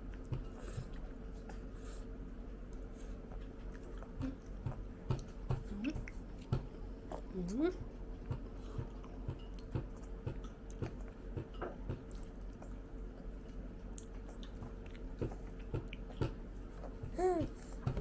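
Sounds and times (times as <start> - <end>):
chewing soft moist food: 0.0 - 18.0.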